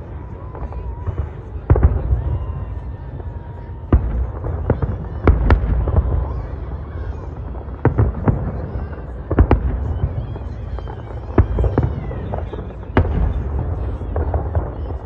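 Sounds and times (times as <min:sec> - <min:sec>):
fireworks bursting in sharp bangs: 0:00.0 - 0:15.0.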